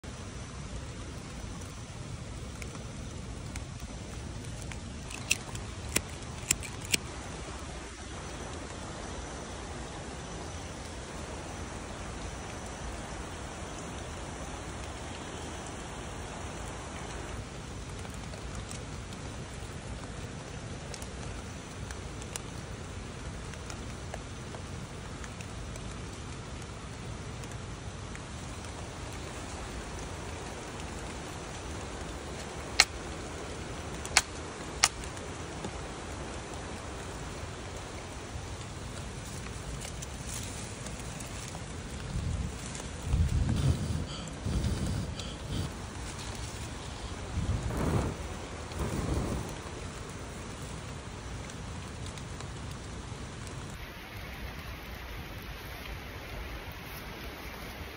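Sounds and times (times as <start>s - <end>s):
steady rain on foliage: 0.0s - 57.9s.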